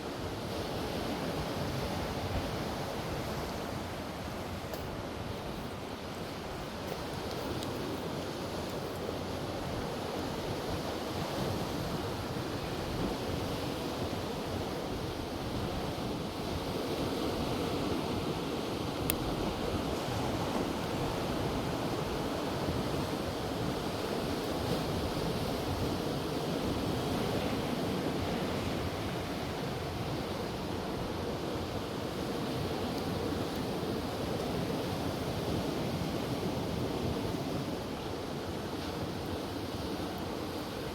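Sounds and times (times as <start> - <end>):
ocean surf washing: 0.0 - 40.9.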